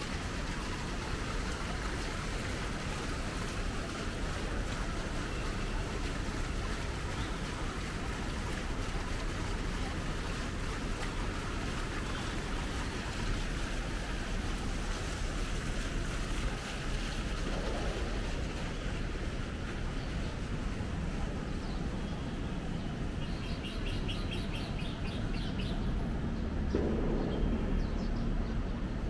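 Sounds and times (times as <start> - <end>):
city street ambience: 0.0 - 29.0.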